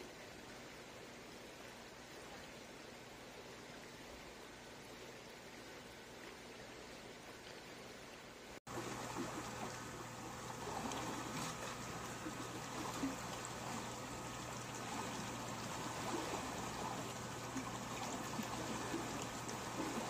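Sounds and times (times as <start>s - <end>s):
faint steady hum: 0.0s - 20.0s
water rushing: 0.0s - 20.0s.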